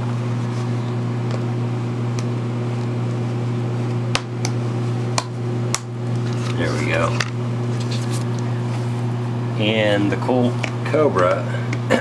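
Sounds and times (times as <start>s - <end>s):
low hum of fan: 0.0s - 12.0s.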